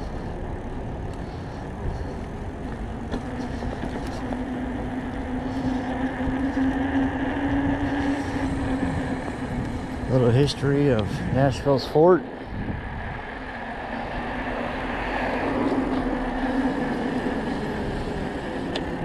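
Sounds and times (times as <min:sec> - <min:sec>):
steady low hum: 0:00.0 - 0:19.0
street traffic rumble: 0:00.0 - 0:19.0.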